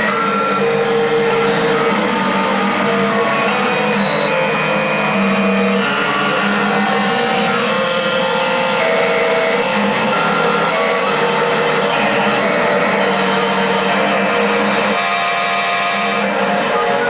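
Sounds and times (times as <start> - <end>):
glitching synthesizer tones: 0.0 - 17.0.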